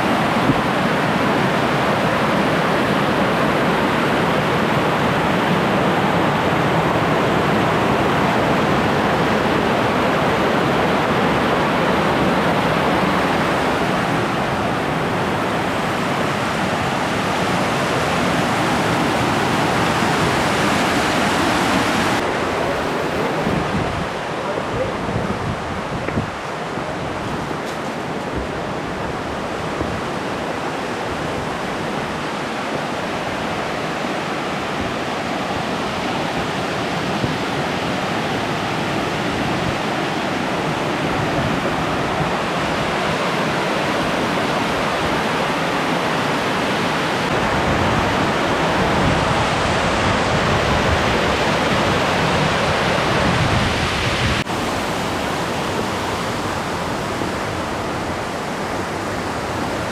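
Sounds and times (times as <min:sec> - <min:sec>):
waterfall cascades rushing: 0:00.0 - 0:59.9.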